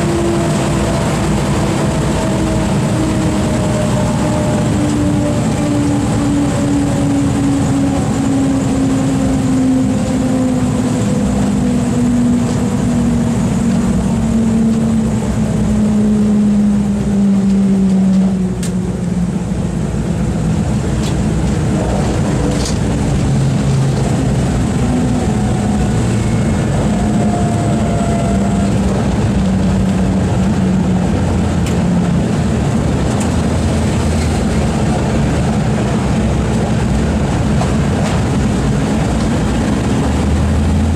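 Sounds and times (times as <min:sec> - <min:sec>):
radial piston engines running loudly: 0:00.0 - 0:40.9.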